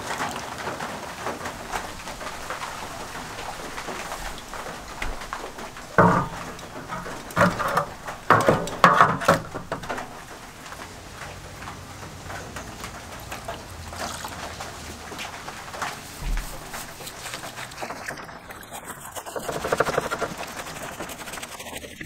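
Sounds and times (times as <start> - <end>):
water splashing in metal tray: 0.0 - 22.0.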